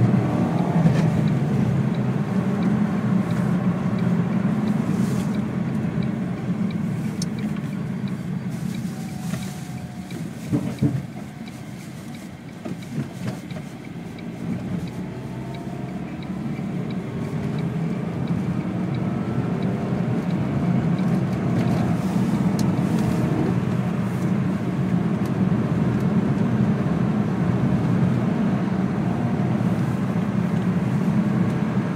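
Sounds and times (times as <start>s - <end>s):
car engine: 0.0s - 31.9s
tyre noise on snowy road: 0.0s - 31.9s.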